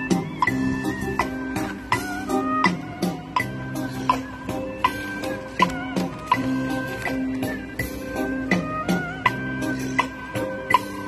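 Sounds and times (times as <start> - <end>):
instrumental backing music: 0.0 - 11.0.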